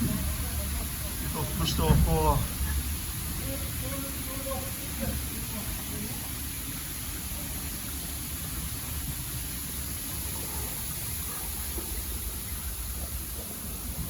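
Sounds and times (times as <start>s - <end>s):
rushing seawater: 0.0s - 14.0s
wind: 0.0s - 14.0s.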